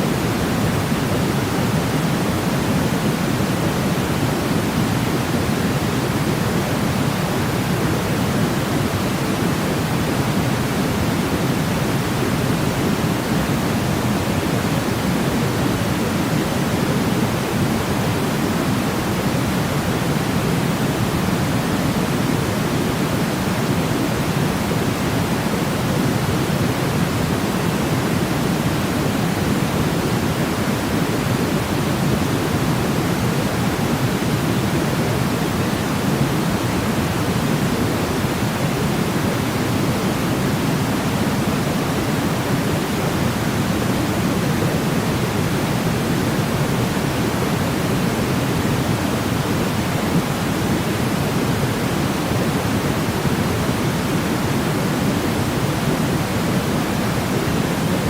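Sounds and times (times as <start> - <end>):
deep white noise hiss: 0.0 - 58.0.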